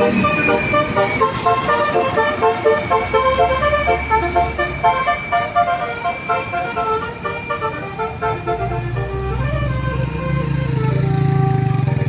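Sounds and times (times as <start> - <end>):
bus engine rumble: 0.0 - 12.0
multi-tone bus horn tune: 0.0 - 12.0.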